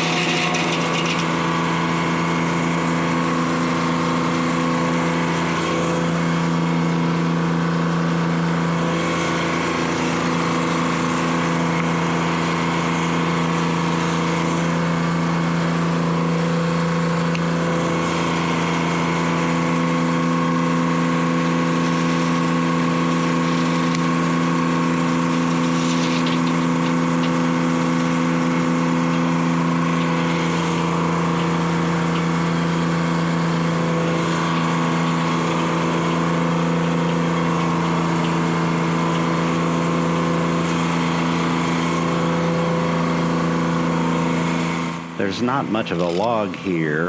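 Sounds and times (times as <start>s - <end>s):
diesel engine running steadily: 0.0s - 47.0s.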